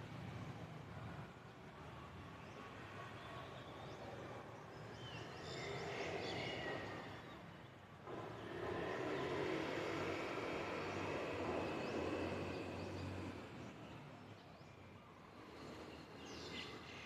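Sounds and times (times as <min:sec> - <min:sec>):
city traffic hum: 0:00.0 - 0:17.0.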